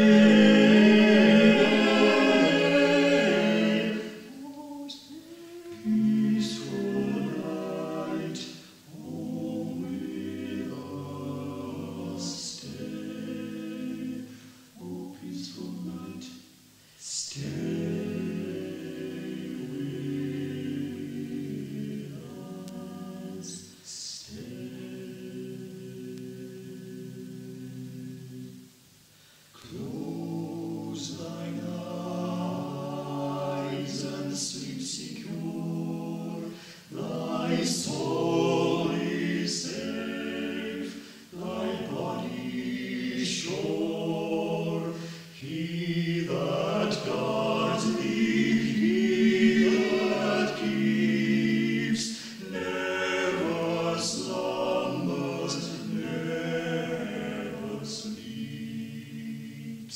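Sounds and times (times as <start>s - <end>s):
choir singing unaccompanied: 0.0s - 28.8s, 29.6s - 59.9s.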